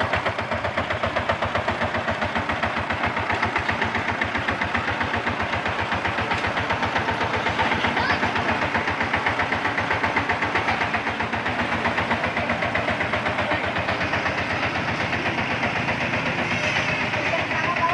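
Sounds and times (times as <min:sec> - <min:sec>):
diesel tractor engine chugging: 0:00.0 - 0:17.9.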